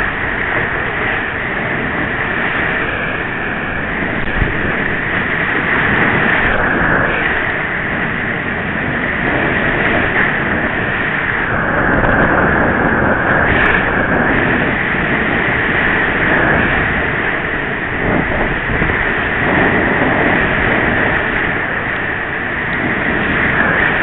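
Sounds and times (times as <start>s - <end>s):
whitewater rapids rushing: 0.0s - 24.0s.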